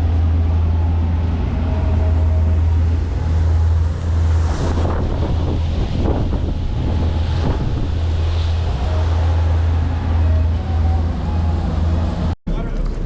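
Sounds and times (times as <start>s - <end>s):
water rushing and splashing: 0.0s - 12.4s
wind buffeting microphone: 0.0s - 12.4s
boat engine droning: 0.0s - 13.0s.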